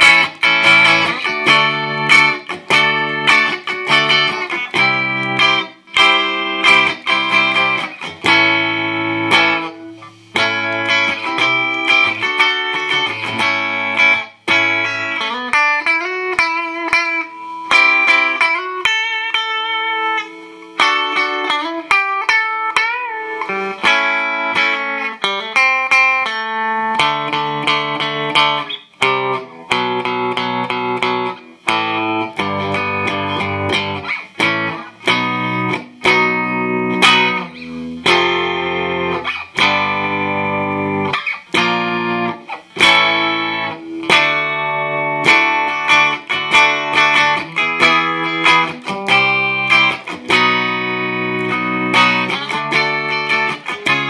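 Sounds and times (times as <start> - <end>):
electric guitar chords and riffs: 0.0 - 54.0.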